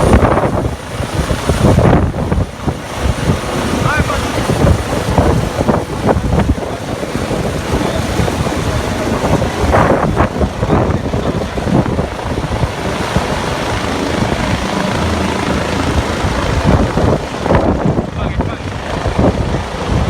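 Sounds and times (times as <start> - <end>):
helicopter rotor and turbines: 0.0 - 20.0
wind buffeting microphone: 0.0 - 20.0.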